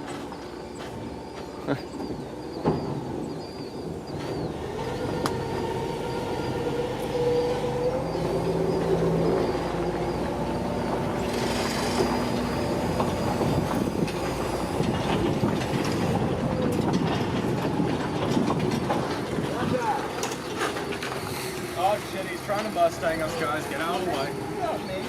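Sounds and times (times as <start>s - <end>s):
heavy machine running: 0.0s - 25.0s.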